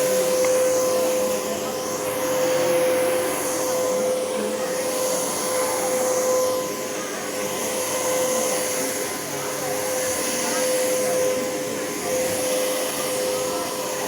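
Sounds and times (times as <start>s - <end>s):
vacuum cleaner running on carpet: 0.0s - 14.0s.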